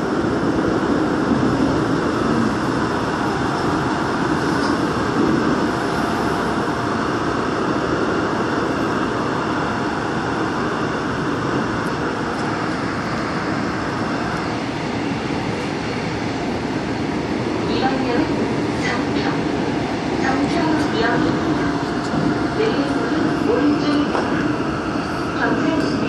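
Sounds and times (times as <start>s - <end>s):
subway train wheels rumbling: 0.0s - 26.0s.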